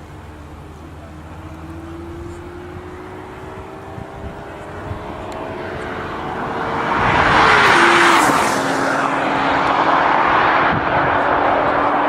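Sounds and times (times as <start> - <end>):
car speeding past: 1.5 - 12.0.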